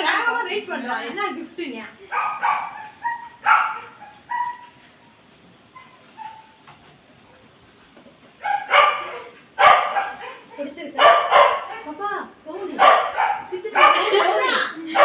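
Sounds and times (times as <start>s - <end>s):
small dog yipping and barking: 2.1s - 15.0s.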